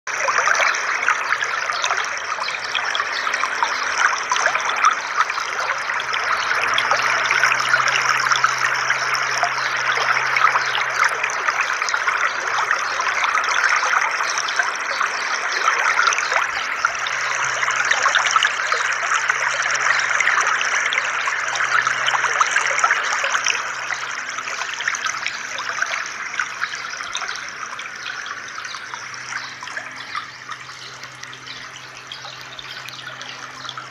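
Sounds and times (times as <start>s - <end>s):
fountain water splashing: 0.1s - 33.9s.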